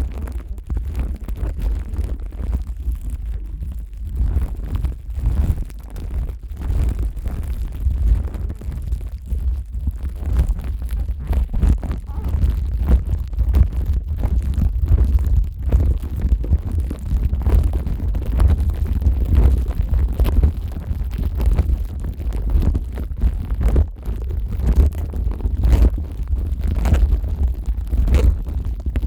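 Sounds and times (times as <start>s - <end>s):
microphone handling rumble: 0.0s - 29.0s.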